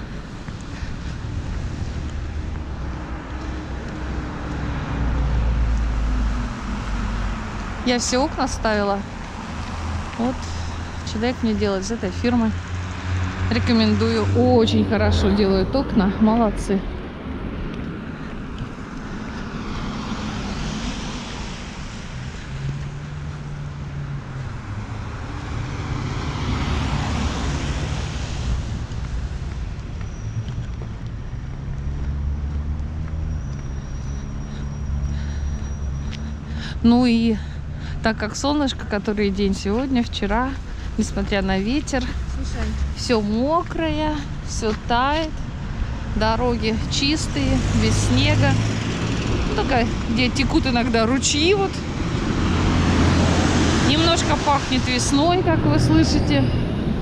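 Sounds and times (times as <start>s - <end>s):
passing cars humming: 0.0s - 57.0s.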